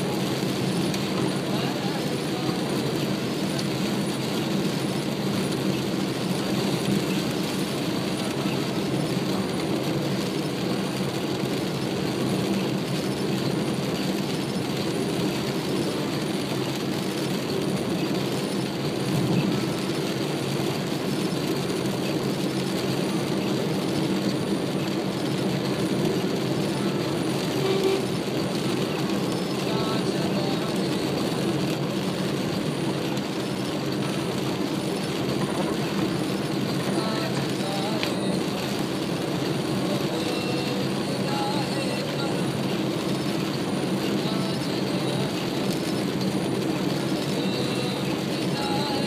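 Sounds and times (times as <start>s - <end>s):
tyres on wet road: 0.0s - 49.0s.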